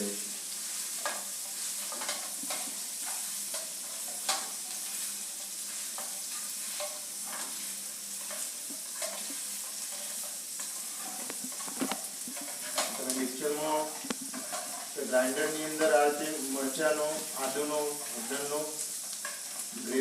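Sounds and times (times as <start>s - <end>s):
chillies sizzling in oil: 0.0s - 20.0s
spatula scraping pan: 0.6s - 20.0s.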